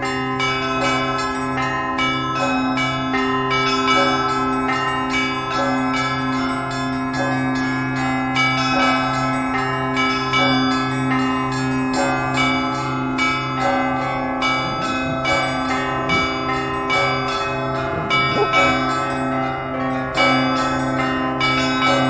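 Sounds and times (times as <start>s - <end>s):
large bell humming: 0.0s - 22.0s
small bells ringing rapidly: 0.0s - 22.0s.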